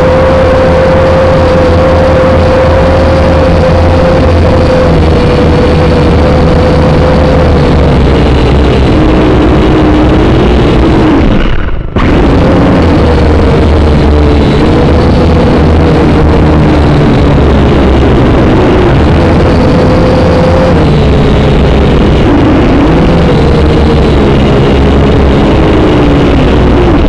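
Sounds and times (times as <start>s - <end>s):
drone propellers buzzing: 0.0s - 27.0s
heavy low rumble: 0.0s - 27.0s.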